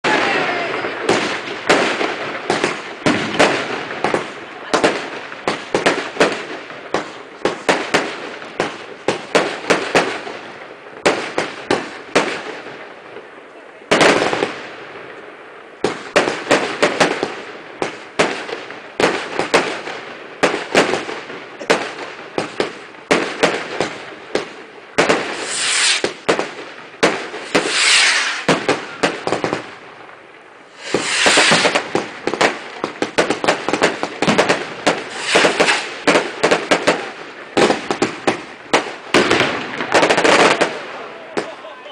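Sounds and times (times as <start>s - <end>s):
fireworks bangs and pops: 0.0s - 41.9s
fireworks crackling: 0.0s - 41.9s.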